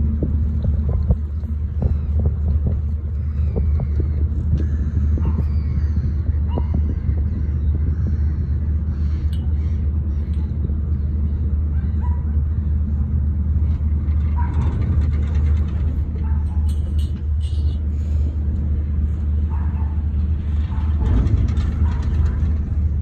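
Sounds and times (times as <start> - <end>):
motorboat engine rumble: 0.0 - 23.0.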